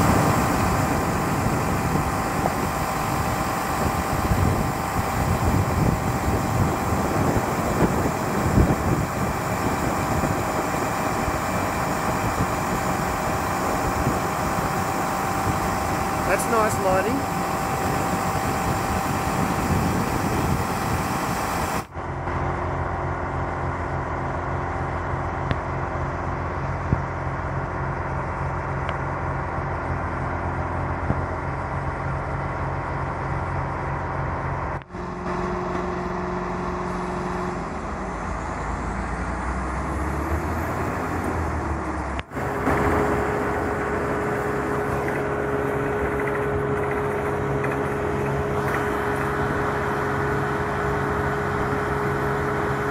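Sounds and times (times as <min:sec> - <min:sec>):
drilling rig engine drone: 0:00.0 - 0:52.9.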